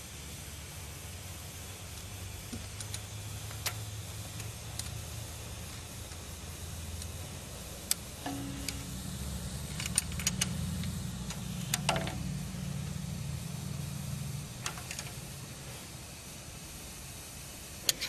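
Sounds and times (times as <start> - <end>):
low steady hum: 0.0 - 17.6.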